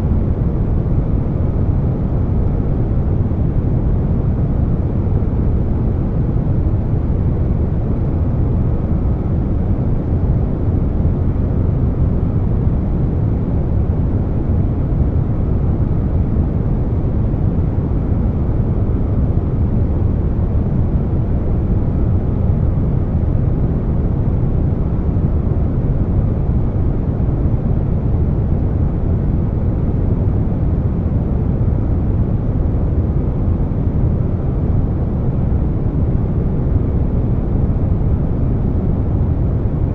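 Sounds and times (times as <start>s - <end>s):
air conditioner hum: 0.0s - 39.9s.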